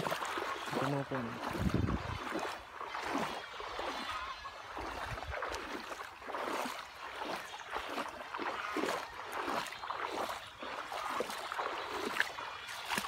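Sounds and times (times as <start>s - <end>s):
water sloshing around wading legs: 0.0s - 13.0s.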